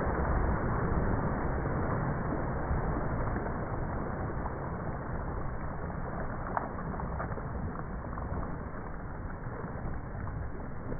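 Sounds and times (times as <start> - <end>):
water splashing from swimming dogs: 0.0 - 10.9.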